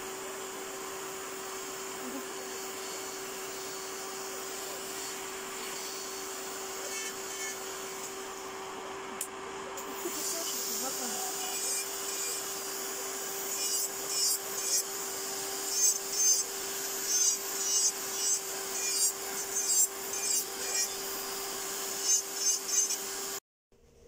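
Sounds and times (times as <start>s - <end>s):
dust extractor fan hiss: 0.0s - 19.3s
nail drill whining: 0.0s - 23.4s
drill bit rasping on nails: 1.6s - 8.4s, 10.0s - 23.4s.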